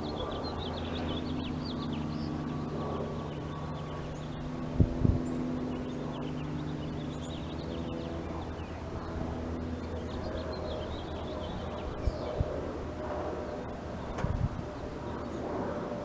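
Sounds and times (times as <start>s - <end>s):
low mechanical hum: 0.0s - 16.0s
small birds chirping: 0.0s - 16.0s.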